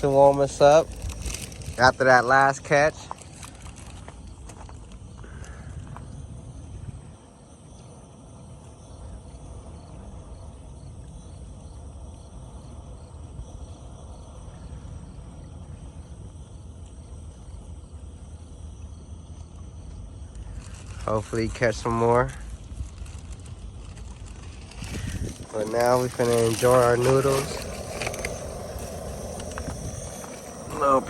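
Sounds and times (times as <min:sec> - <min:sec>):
wind rumble on microphone: 0:00.0 - 0:17.9, 0:19.8 - 0:31.0
crickets chirping: 0:00.0 - 0:31.0.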